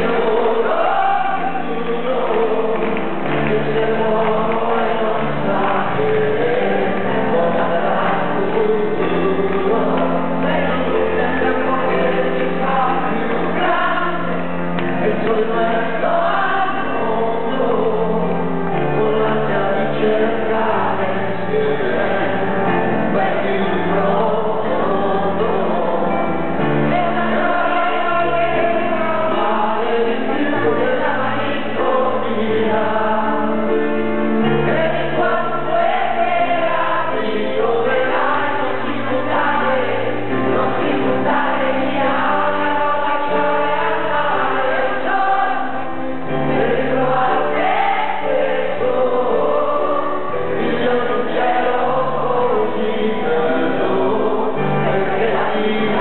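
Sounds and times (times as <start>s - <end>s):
stage piano: 0.0s - 56.0s
voices singing together: 0.0s - 56.0s.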